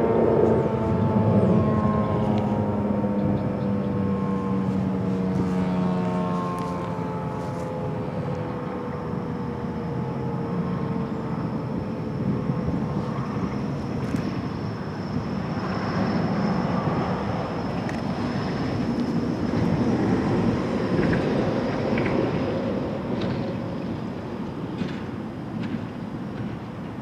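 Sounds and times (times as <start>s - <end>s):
warning siren winding down: 0.0s - 25.1s
steady broad rumble: 0.0s - 27.0s.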